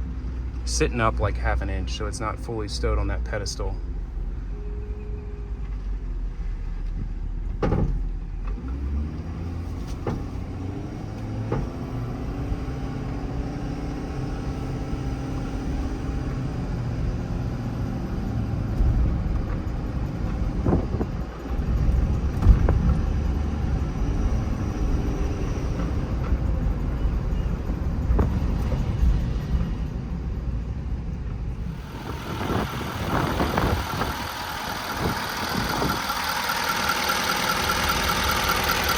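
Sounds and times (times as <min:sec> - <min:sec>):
diesel engine driving: 0:00.0 - 0:38.9
road rumble: 0:00.0 - 0:38.9.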